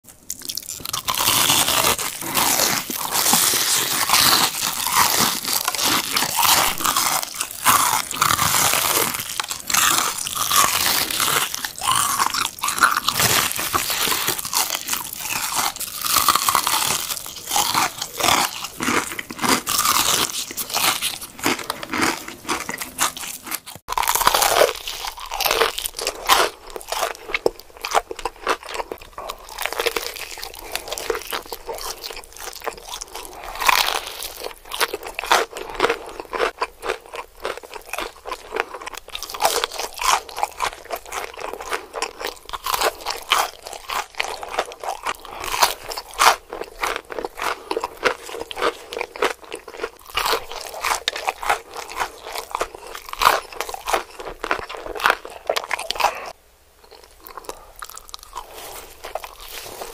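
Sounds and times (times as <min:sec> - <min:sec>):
crunching of fried chicken being chewed: 0:00.1 - 0:59.9.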